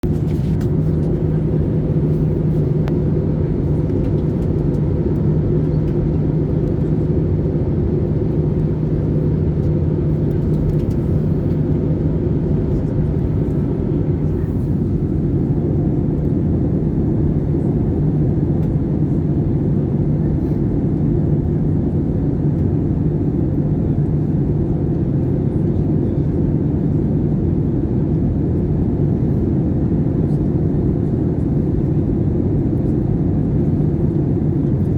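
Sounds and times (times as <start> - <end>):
airplane engines droning: 0.0 - 34.9.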